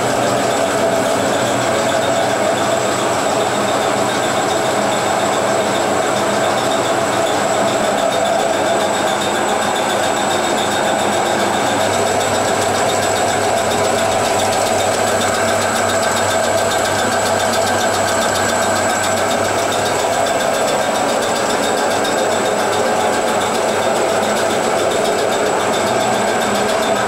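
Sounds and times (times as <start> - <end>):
washing machine drone: 0.0 - 27.0.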